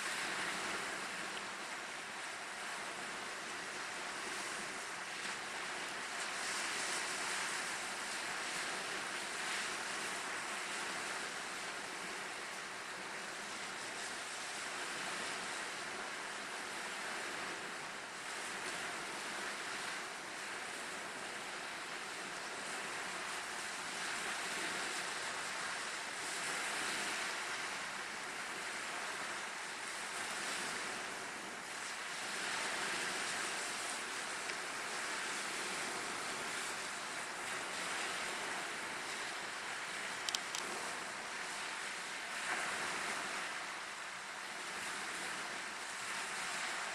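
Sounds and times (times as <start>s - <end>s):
waves breaking on shore: 0.0s - 46.9s.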